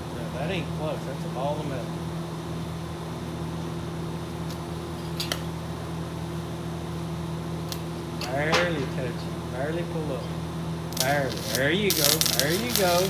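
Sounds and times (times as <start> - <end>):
welding machine humming: 0.0 - 13.0.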